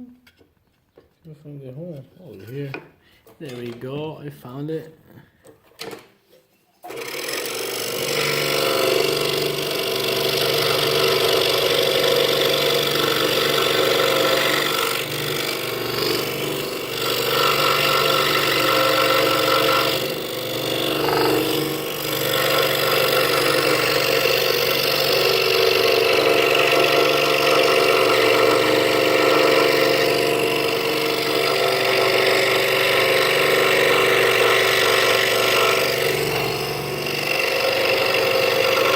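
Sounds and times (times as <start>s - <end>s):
scroll saw cutting wood: 6.8s - 38.9s.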